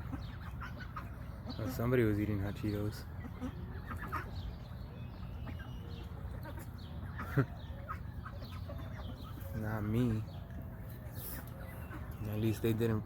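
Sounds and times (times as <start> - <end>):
poultry calling: 0.0 - 13.0.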